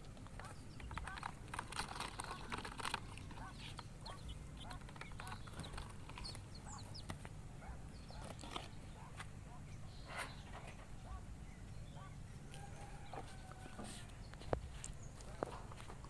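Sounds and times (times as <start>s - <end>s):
quail chicks peeping: 0.0s - 16.0s.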